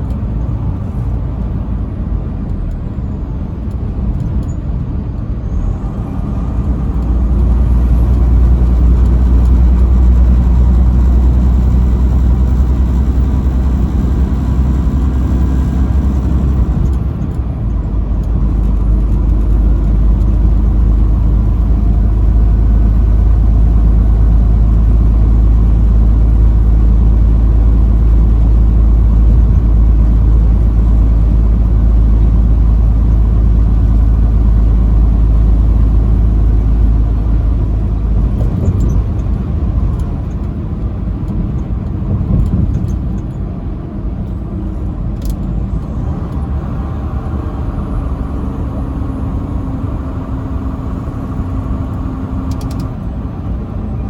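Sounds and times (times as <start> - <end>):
truck engine deep drone: 0.0 - 54.0.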